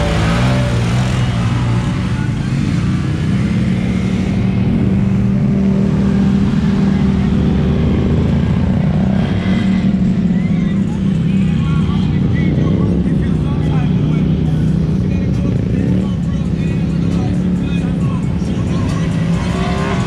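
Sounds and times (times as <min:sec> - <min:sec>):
utility vehicle engine drone: 0:00.0 - 0:20.0.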